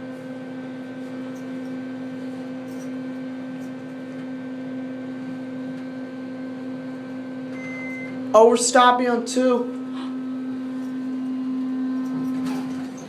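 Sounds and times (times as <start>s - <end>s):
elevator machinery hum: 0.0s - 13.0s.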